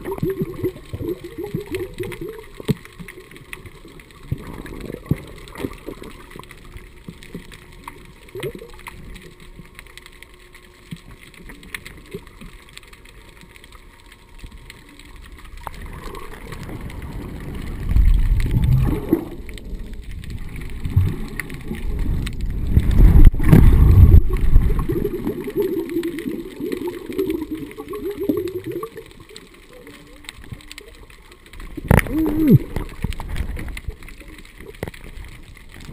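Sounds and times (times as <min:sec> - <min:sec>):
low underwater hiss: 0:00.0 - 0:35.9
water rushing and sloshing: 0:00.0 - 0:35.9.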